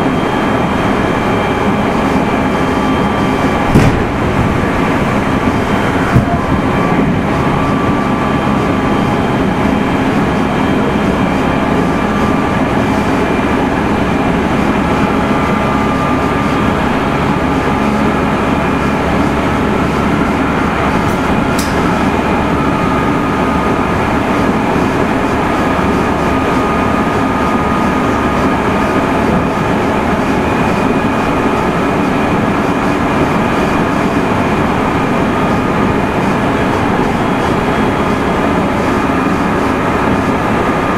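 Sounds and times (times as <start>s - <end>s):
faint steady whines: 0.0s - 40.9s
train wheels rumbling on rail: 0.0s - 40.9s.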